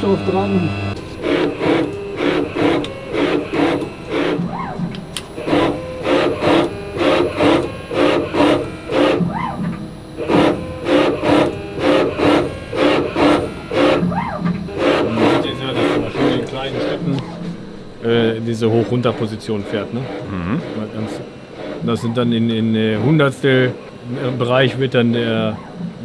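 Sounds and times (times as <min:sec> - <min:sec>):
rhythmic scraping metal cutting: 0:00.0 - 0:26.0.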